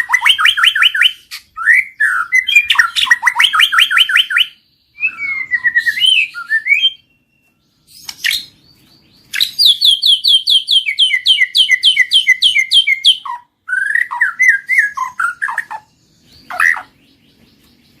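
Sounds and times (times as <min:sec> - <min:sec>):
bird singing whistled phrases: 0:00.0 - 0:17.2.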